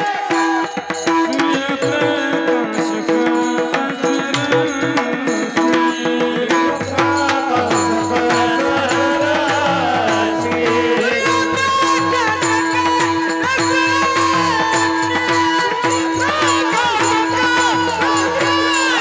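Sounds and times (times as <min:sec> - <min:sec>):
fast hand drumming: 0:00.0 - 0:19.0
harmonium drone: 0:00.0 - 0:19.0.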